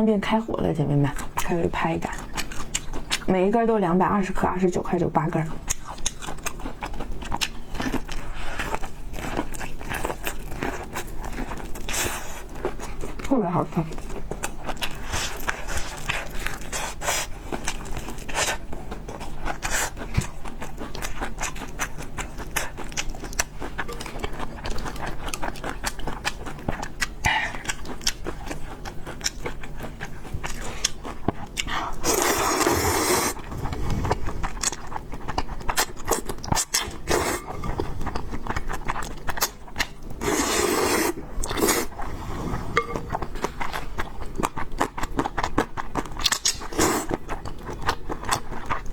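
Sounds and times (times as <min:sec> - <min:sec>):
chewing: 0:01.1 - 0:03.4, 0:05.4 - 0:42.1, 0:42.8 - 0:48.9.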